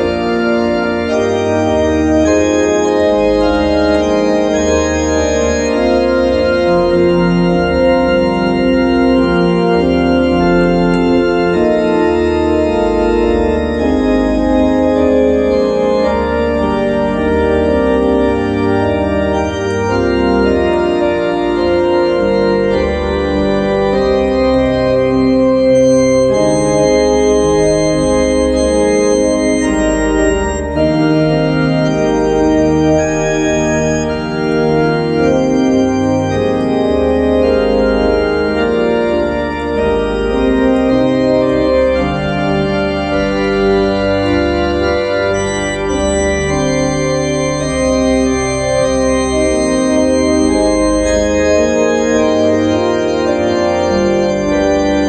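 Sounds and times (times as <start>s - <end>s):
organ playing slow chords: 0.0s - 55.0s.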